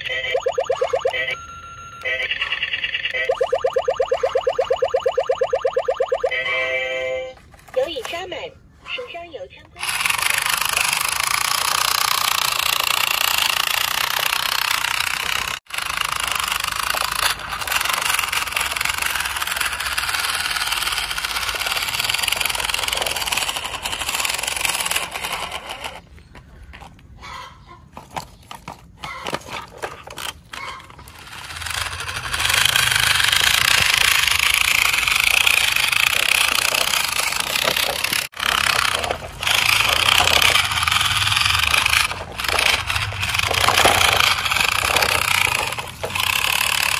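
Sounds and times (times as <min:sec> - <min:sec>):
toy electric motor whirring: 0:00.0 - 0:08.3, 0:09.7 - 0:26.2, 0:28.1 - 0:46.9.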